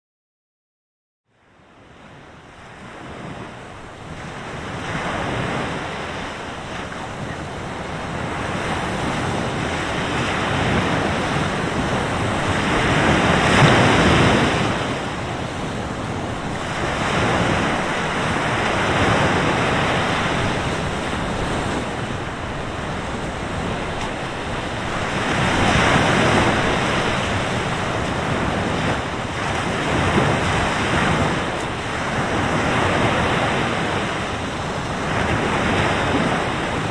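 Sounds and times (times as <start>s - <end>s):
strong wind: 1.3s - 36.9s
surf breaking on a beach: 1.4s - 36.9s.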